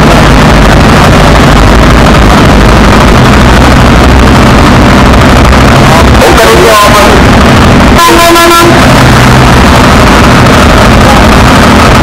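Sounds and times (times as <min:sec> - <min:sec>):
heavy lorries rumbling past: 0:00.0 - 0:12.0.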